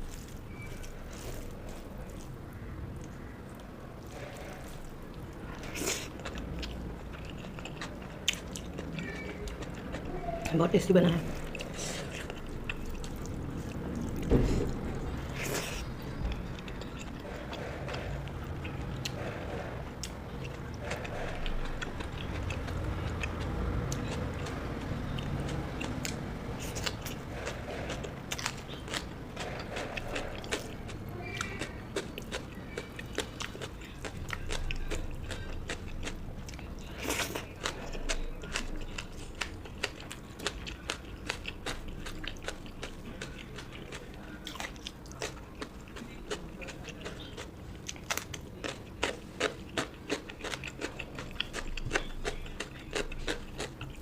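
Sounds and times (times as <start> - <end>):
close chewing with wet mouth clicks: 0.0 - 54.0.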